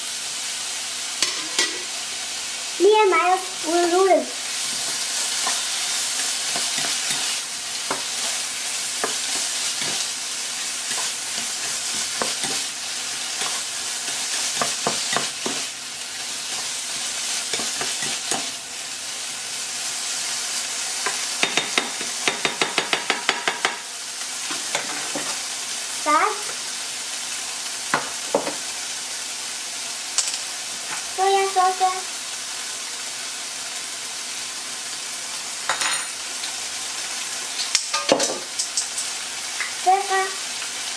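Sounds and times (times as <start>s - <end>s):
vegetables sizzling in a frying pan: 0.0s - 40.9s.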